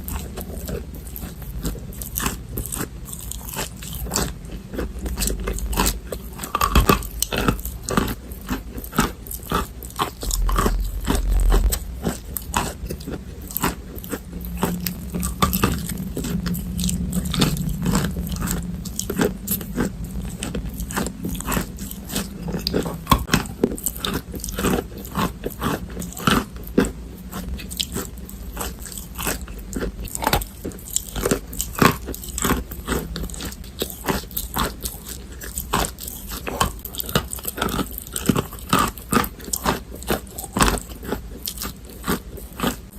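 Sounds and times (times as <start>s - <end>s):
chewing chalk crunches: 0.0s - 42.9s.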